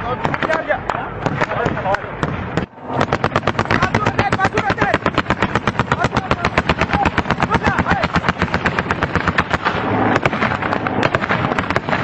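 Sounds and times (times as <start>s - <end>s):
machine gun firing: 0.2s - 12.0s.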